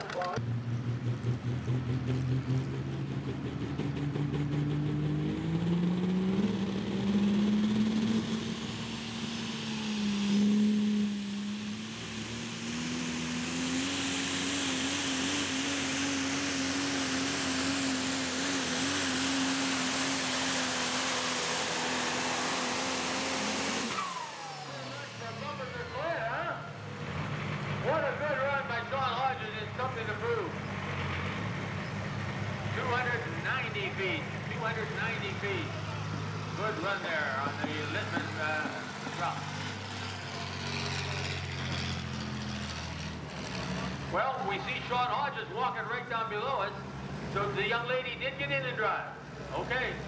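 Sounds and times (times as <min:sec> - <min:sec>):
truck engine at full throttle: 0:00.0 - 0:50.0.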